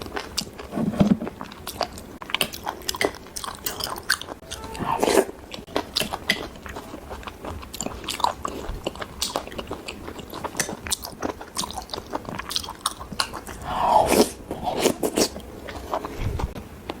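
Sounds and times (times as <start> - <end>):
biting and chewing: 0.0 - 16.6.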